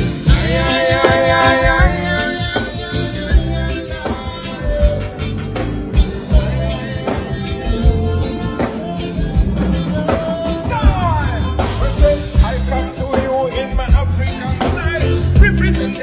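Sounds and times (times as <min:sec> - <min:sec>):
band music with drums and bass: 0:00.0 - 0:16.0.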